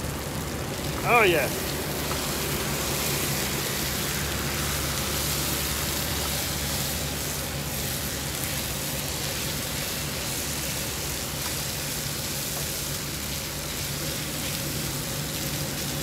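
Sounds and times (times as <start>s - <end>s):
bacon and onions sizzling: 0.0s - 16.0s
low engine hum: 0.0s - 16.0s.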